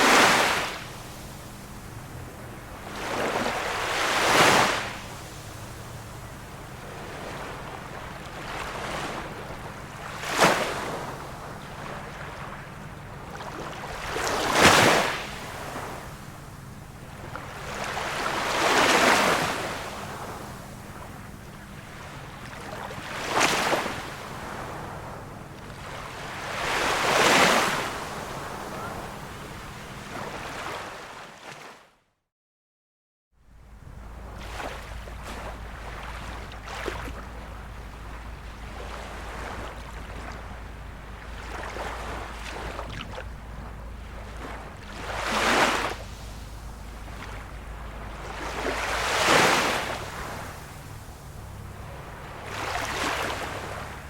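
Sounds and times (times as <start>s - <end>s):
small sea waves breaking: 0.0s - 31.9s, 33.6s - 54.0s.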